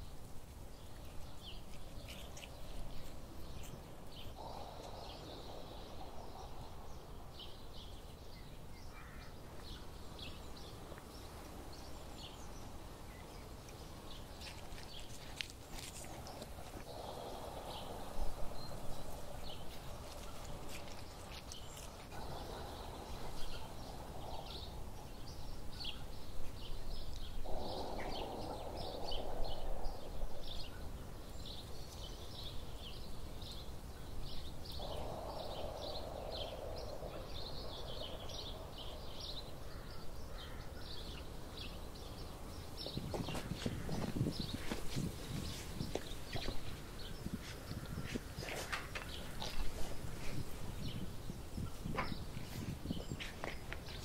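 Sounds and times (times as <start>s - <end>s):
small birds chirping: 0.0s - 54.0s
soft rushing hiss: 0.0s - 54.0s.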